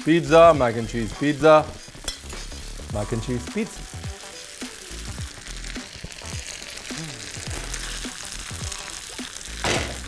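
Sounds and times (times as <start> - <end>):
background music with low beat: 0.0 - 10.0
food sizzling in a pan: 0.0 - 10.0.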